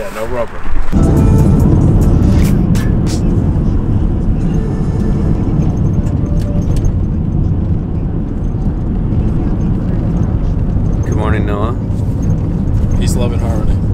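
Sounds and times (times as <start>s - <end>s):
car cabin road rumble on gravel: 0.0s - 13.9s.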